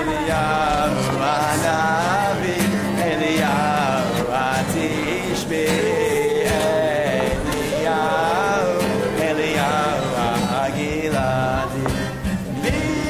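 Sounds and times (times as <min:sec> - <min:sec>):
guitar accompaniment: 0:00.0 - 0:13.0
man singing: 0:00.0 - 0:13.0.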